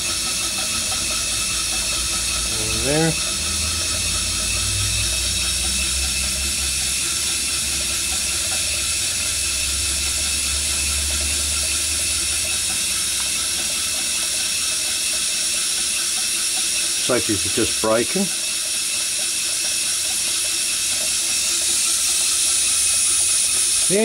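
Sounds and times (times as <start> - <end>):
steam engine hissing: 0.0 - 24.0.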